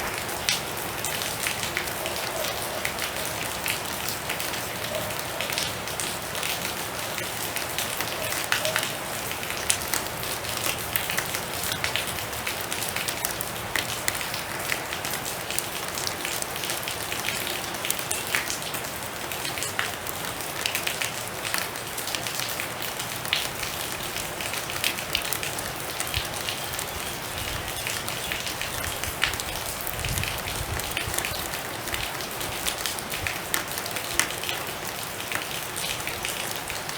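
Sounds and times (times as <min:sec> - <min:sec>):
heavy rain falling: 0:00.0 - 0:36.9.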